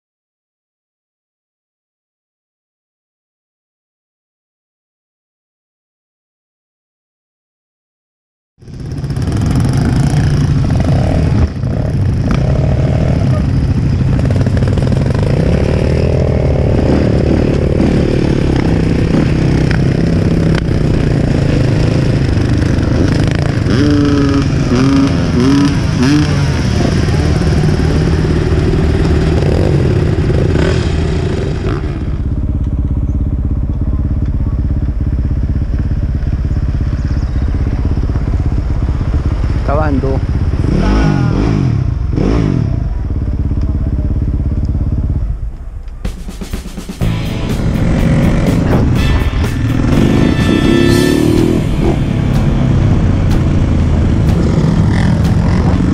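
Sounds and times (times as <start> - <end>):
motorcycle engine revving: 8.6 - 55.9.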